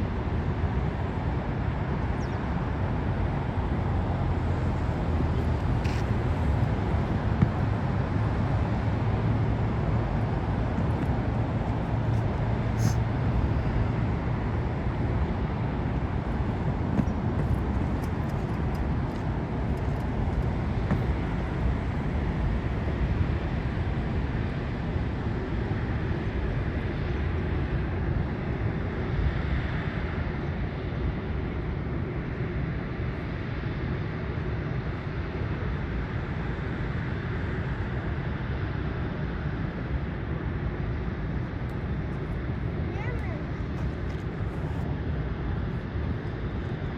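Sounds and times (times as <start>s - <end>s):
road traffic: 0.0s - 27.7s, 33.3s - 46.9s
airport engine noise: 0.0s - 46.9s
jet aircraft: 0.0s - 46.9s.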